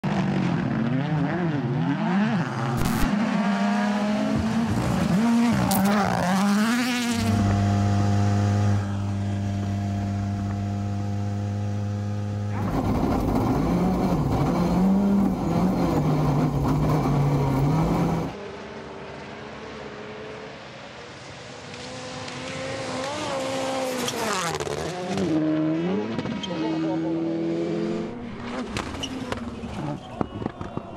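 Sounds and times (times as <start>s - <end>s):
rally car engines revving: 0.0s - 18.6s, 21.4s - 30.8s.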